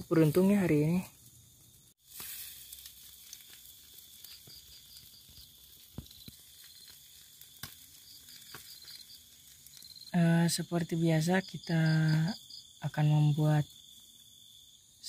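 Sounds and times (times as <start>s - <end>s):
charcoal crackles and pops: 0.0s - 14.7s
crickets chirping: 0.0s - 15.0s
fish sizzling on grill: 0.0s - 15.0s.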